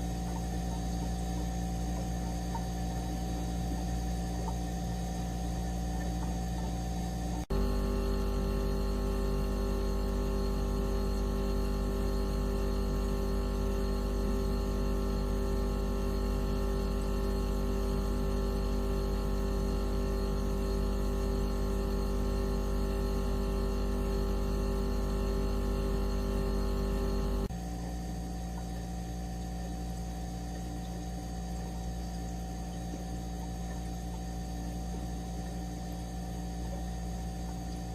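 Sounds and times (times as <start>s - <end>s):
deep electronic hum: 0.0s - 37.9s.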